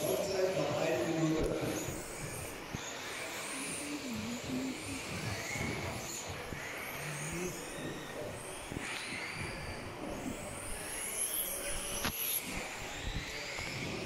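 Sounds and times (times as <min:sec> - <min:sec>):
toy car motors whining: 0:00.0 - 0:14.0.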